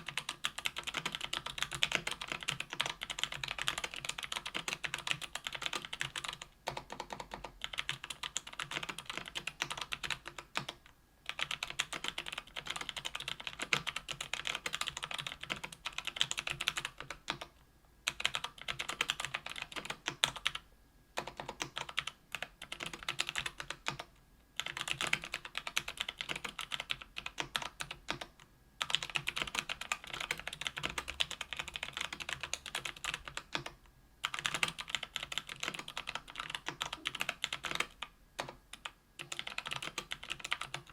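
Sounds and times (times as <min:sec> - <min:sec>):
fast keyboard typing: 0:00.0 - 0:17.5, 0:18.1 - 0:20.6, 0:21.2 - 0:40.9.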